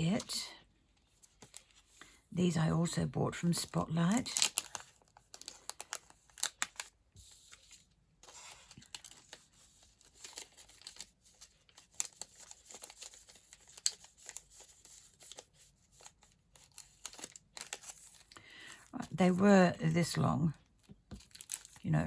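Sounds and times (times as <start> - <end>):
packaging crinkling and rustling: 1.0 - 1.9, 3.3 - 18.4, 20.0 - 21.9.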